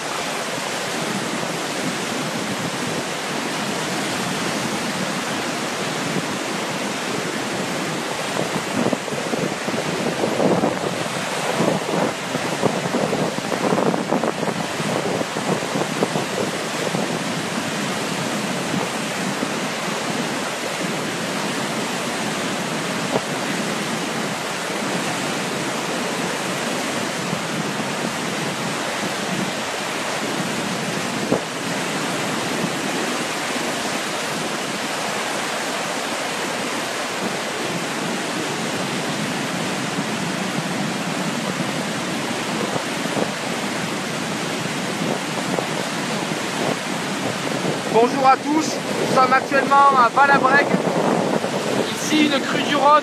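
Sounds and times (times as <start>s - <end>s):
turbulent water rushing: 0.0s - 53.0s.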